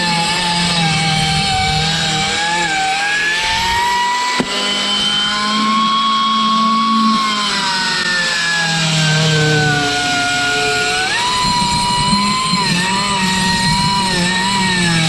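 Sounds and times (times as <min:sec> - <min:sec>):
angle grinder whine: 0:00.0 - 0:15.0.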